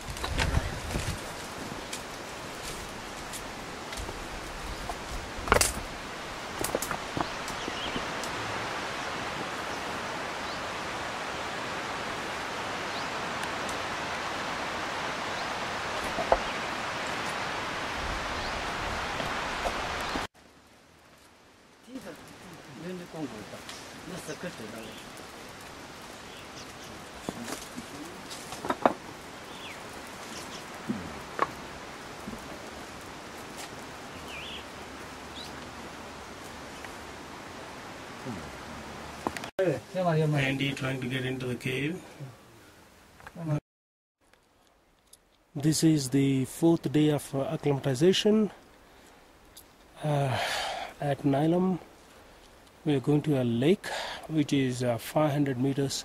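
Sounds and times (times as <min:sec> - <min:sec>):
outdoor background hiss: 0:00.0 - 0:43.6, 0:44.2 - 0:56.0.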